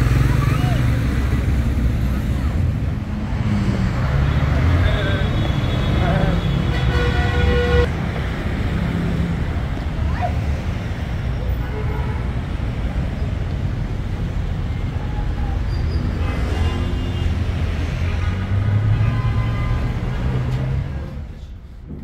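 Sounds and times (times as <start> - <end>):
low rumble of traffic: 0.0 - 22.0.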